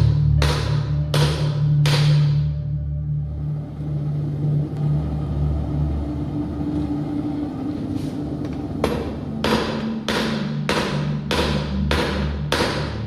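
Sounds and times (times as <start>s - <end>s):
steady low drone: 0.0s - 13.0s.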